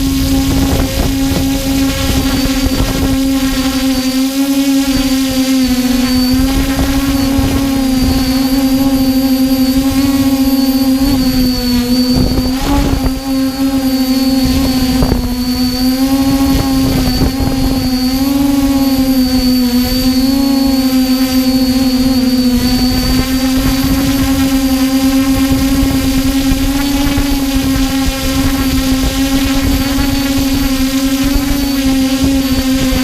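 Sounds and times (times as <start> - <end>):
drone motors humming: 0.0 - 33.0
wind rumble on microphone: 0.0 - 33.0.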